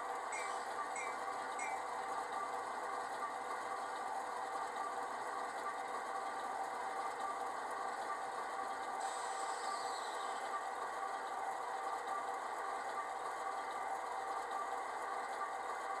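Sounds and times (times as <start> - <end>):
train rattling on rails: 0.0 - 16.0.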